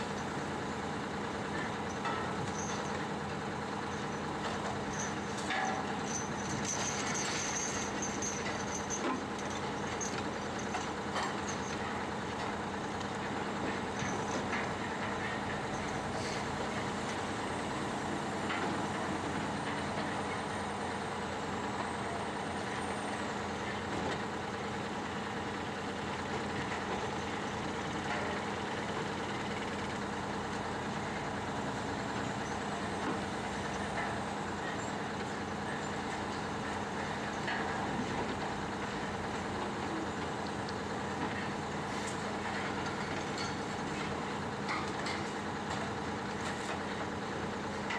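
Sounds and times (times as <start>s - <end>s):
heavy machinery engine running: 0.0s - 47.9s.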